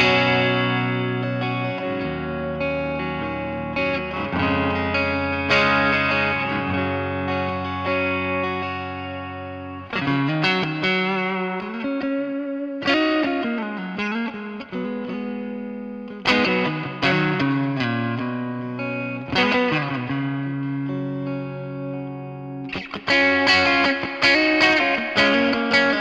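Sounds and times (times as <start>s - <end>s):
electric guitar chords ringing: 0.0s - 26.0s
electric guitar lead line: 0.0s - 26.0s.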